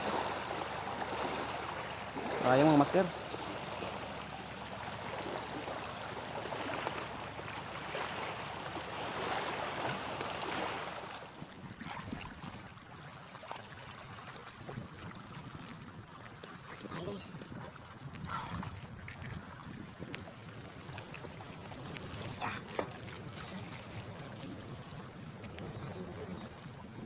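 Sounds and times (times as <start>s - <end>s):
waves lapping over rocks: 0.0s - 27.0s.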